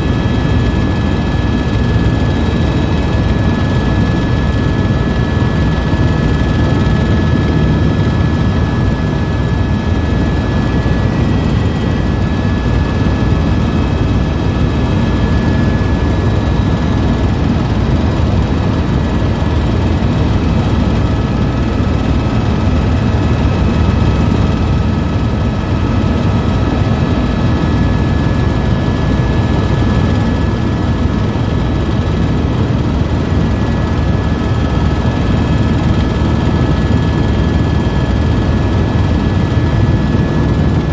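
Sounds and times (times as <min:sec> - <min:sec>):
helicopter rotor and engine drone: 0:00.0 - 0:40.9
turbine whine: 0:00.0 - 0:40.9.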